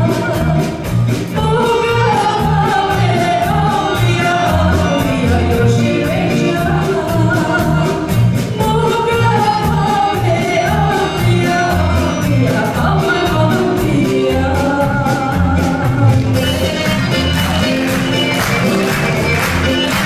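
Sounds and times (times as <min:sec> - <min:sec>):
woman singing: 0:00.0 - 0:16.8
steady drum beat: 0:00.0 - 0:20.0.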